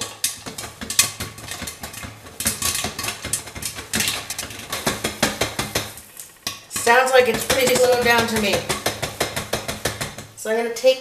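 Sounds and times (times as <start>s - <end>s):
pot shaken on stove: 0.0s - 10.4s
popcorn popping: 0.0s - 10.5s.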